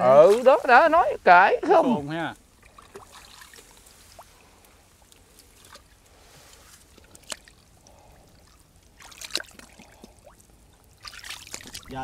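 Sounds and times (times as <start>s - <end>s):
shallow water trickling and splashing: 0.0s - 12.0s.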